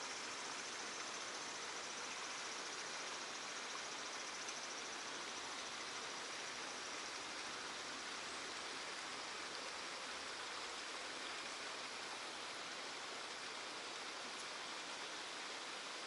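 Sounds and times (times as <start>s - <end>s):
rush of flowing water: 0.0s - 16.0s.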